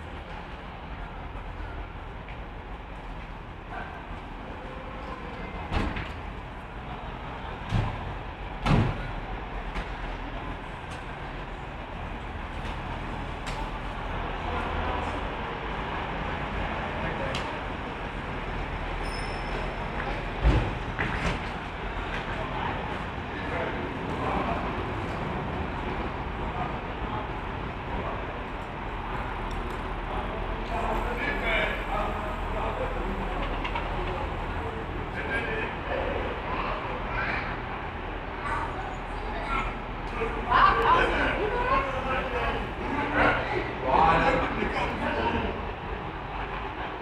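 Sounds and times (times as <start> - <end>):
faint indistinct voices: 0.0 - 47.0.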